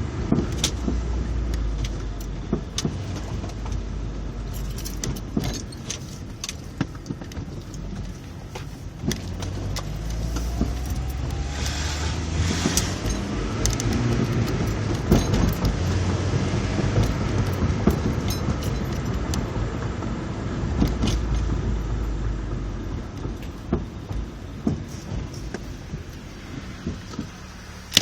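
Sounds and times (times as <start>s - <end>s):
car engine droning: 0.0s - 28.0s
suspension clunks: 0.0s - 28.0s.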